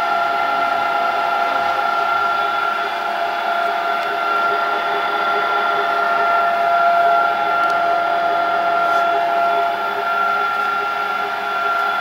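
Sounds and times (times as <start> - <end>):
machine whine: 0.0 - 12.0
mechanical hum: 0.0 - 12.0.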